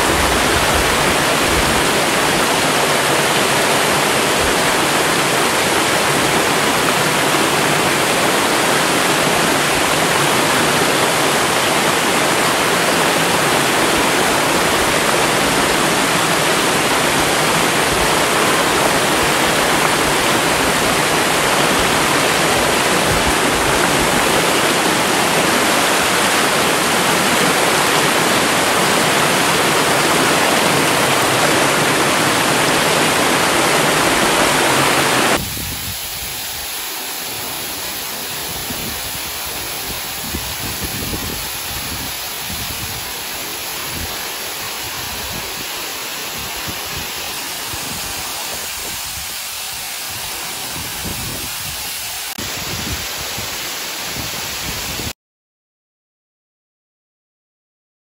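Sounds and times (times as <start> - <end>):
waterfall rushing: 0.0 - 55.1.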